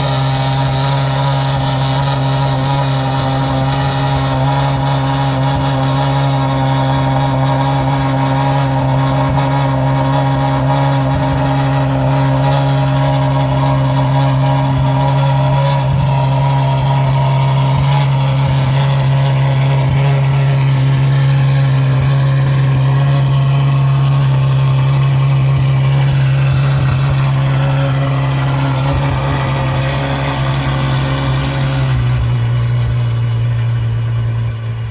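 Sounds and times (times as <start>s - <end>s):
loud car engine idling: 0.0s - 34.9s.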